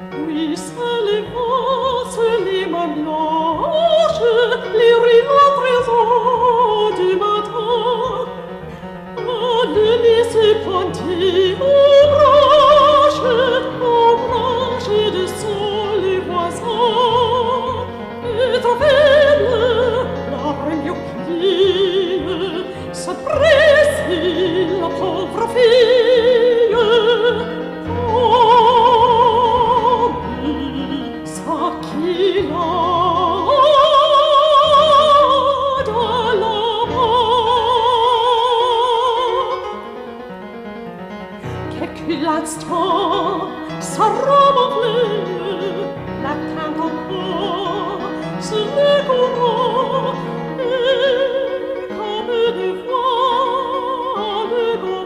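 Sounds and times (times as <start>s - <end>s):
operatic singing: 0.0s - 55.0s.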